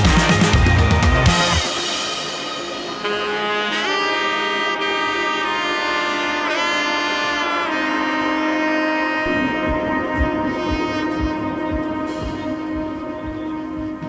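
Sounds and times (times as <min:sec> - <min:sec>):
saxophone-like melody: 0:00.0 - 0:14.0.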